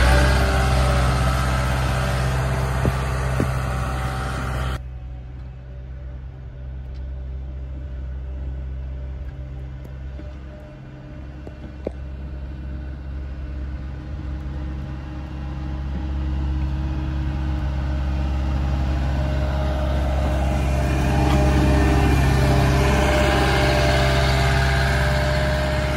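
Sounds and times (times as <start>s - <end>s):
diesel engine plowing snow: 0.0s - 25.9s.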